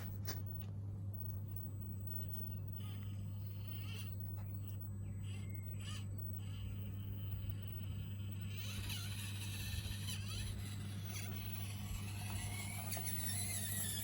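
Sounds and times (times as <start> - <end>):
steady low hum: 0.0 - 14.0
small electric motor whining: 1.2 - 14.0.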